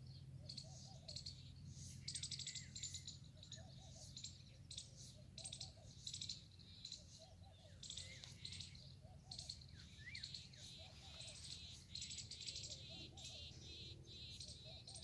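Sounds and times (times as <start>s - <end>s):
birds chirping and trilling: 0.1s - 15.0s.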